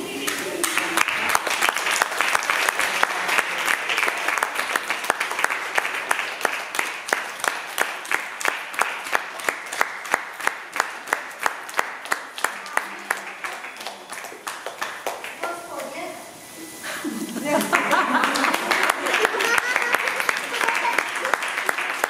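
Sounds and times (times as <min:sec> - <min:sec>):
children applauding: 0:00.0 - 0:15.8, 0:17.5 - 0:22.0.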